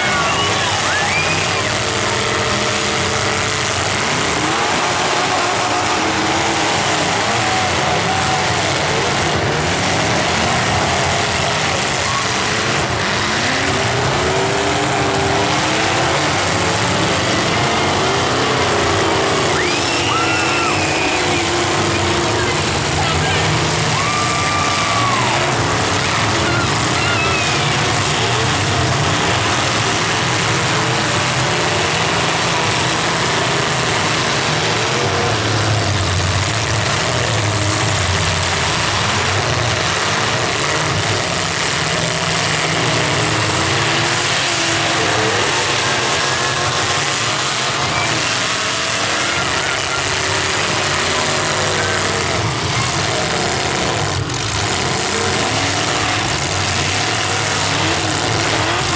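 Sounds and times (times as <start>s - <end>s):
car engines revving: 0.0s - 58.9s.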